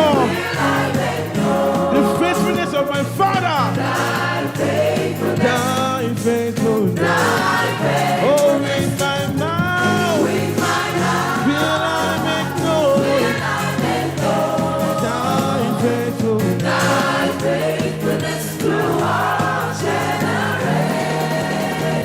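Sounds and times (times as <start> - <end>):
band with bass line: 0.0 - 22.0
choir singing: 0.0 - 22.0.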